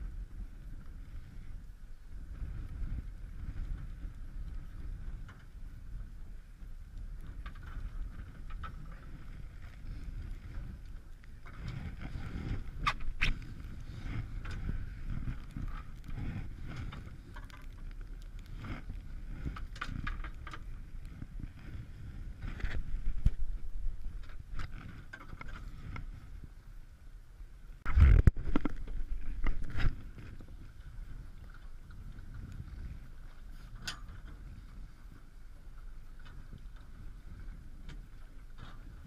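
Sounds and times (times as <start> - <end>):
camera rumble and rustle: 0.0 - 39.0.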